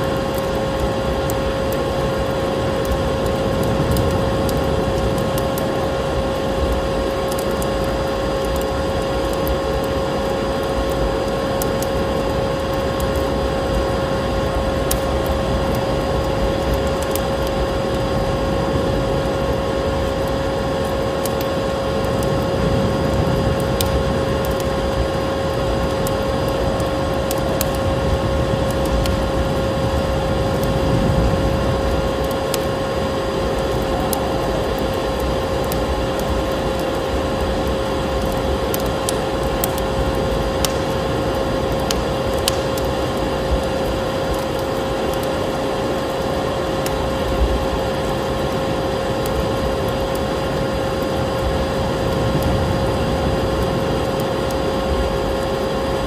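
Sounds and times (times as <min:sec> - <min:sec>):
low wind rumble: 0:00.0 - 0:56.0
wood fire crackling: 0:00.0 - 0:56.0.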